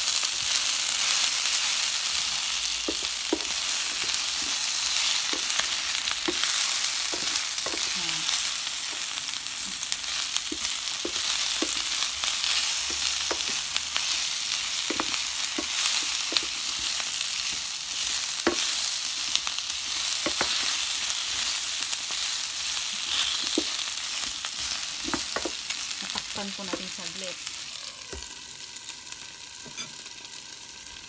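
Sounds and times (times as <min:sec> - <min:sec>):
meat and onions sizzling in oil: 0:00.0 - 0:31.0.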